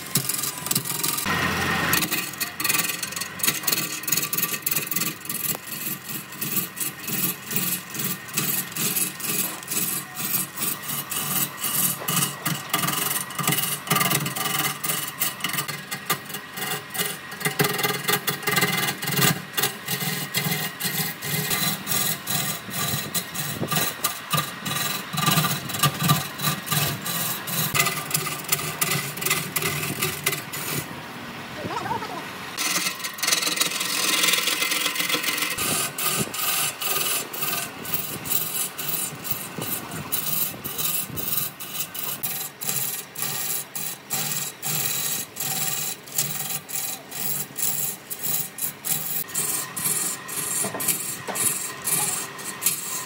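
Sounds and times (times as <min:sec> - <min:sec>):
lathe tool scraping spinning wood: 0:00.0 - 0:31.0, 0:31.6 - 0:53.0.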